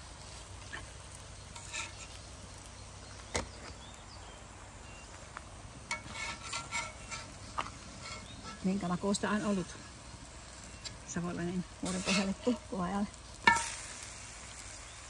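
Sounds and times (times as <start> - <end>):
batter sizzling on griddle: 0.0 - 15.0.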